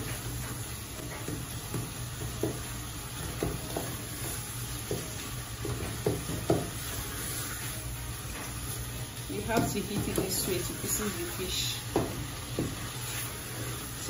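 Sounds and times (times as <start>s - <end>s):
onions sizzling in oil: 0.0s - 14.0s
spatula scraping a pot: 0.1s - 14.0s.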